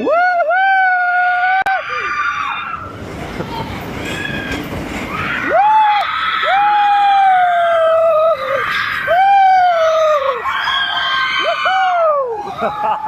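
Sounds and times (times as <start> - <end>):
riders screaming: 0.0 - 3.0, 4.0 - 13.0.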